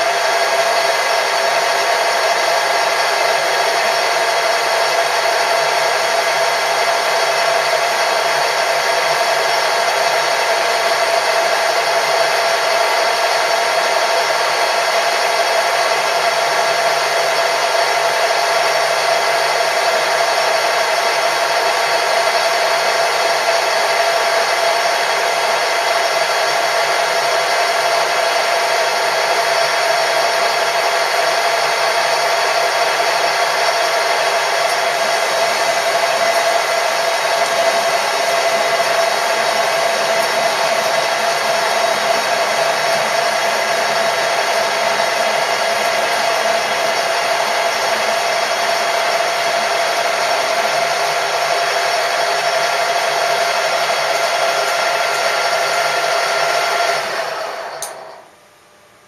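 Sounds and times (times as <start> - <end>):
machine tool motor whining: 0.0 - 58.3.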